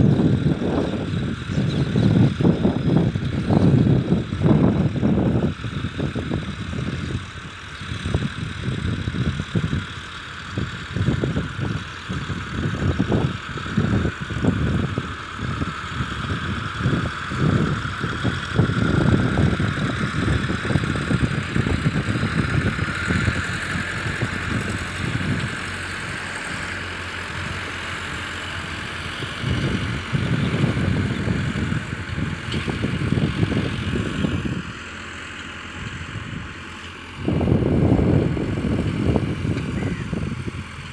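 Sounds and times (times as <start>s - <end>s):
disc harrow pulled through soil: 0.0s - 40.9s
tractor diesel engine working: 0.0s - 40.9s
wind buffeting microphone: 0.0s - 40.9s.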